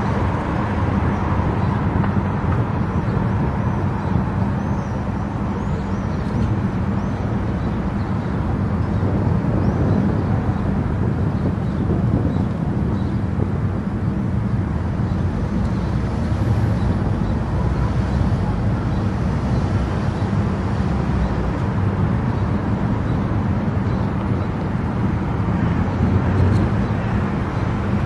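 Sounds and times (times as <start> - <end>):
car tyres and engine rumble: 0.0 - 28.0.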